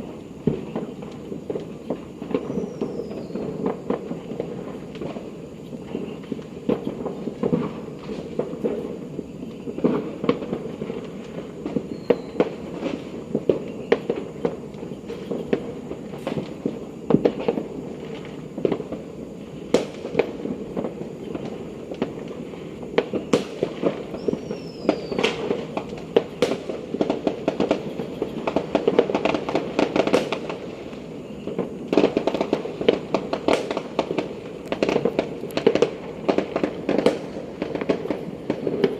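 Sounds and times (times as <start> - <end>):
firework whistles: 0.0 - 38.9
fireworks popping and banging: 0.0 - 38.9.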